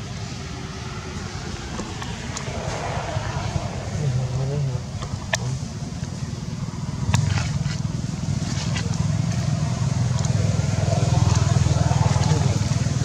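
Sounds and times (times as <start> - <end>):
engine pulsing rumble: 0.0 - 13.0.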